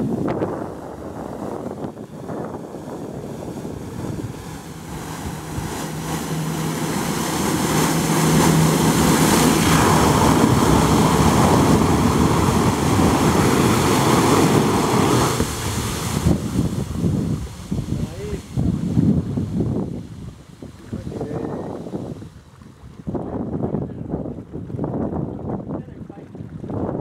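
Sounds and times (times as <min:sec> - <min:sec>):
jet ski engine humming: 0:00.0 - 0:27.0
water jets blasting onto water: 0:00.0 - 0:27.0.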